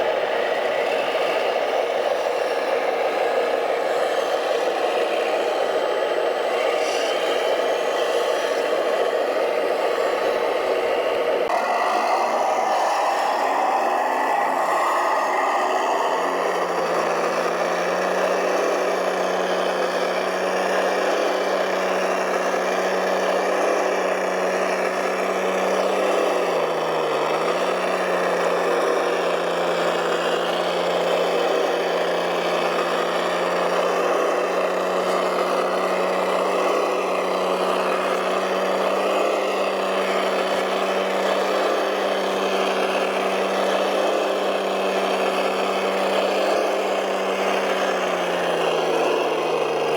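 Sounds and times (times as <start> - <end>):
small motor humming: 0.0 - 49.9.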